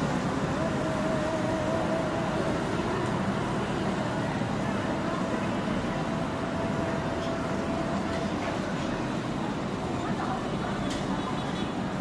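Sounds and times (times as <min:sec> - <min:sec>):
faint steady whine: 0:00.0 - 0:10.7
road traffic: 0:00.0 - 0:12.0.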